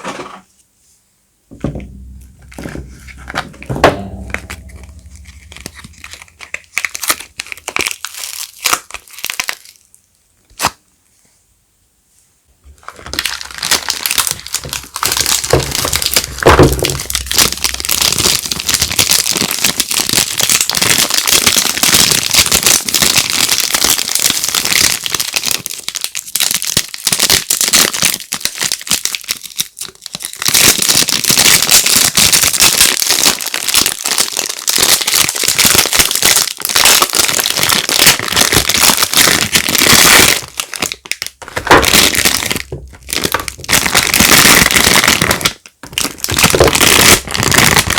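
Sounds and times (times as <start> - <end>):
packaging crinkling: 1.8 - 9.8, 12.7 - 47.9.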